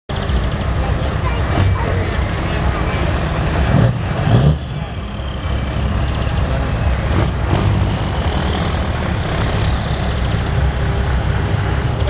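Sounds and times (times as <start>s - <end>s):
truck diesel engine rumbling: 0.1s - 12.0s.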